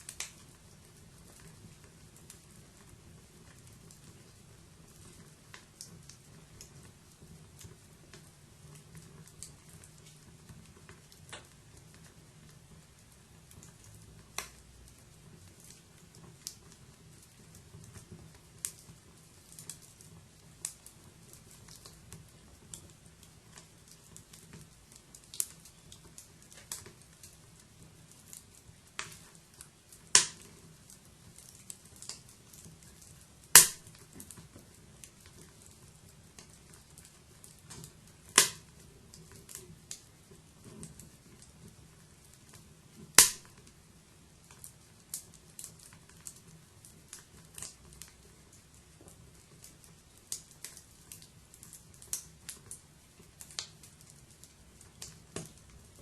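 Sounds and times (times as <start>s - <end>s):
faint low hiss: 0.0s - 56.0s
wood fire crackling: 0.0s - 56.0s.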